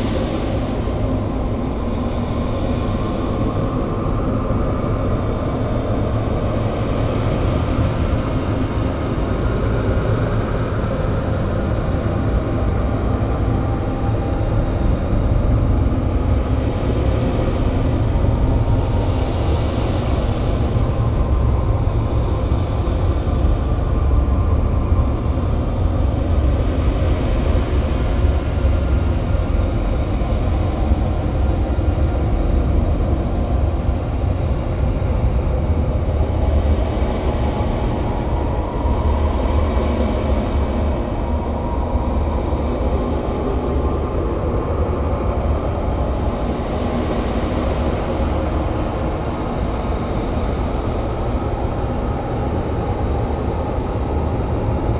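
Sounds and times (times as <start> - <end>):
dense noisy wash: 0.0 - 54.9.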